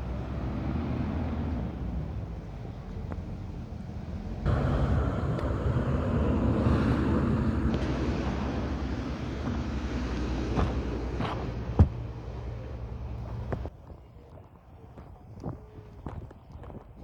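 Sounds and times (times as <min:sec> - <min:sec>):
steady low outdoor rumble: 0:00.0 - 0:17.0.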